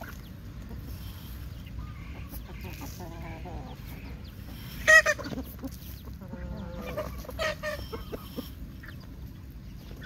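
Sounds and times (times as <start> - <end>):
roosters clucking: 0.0 - 10.0.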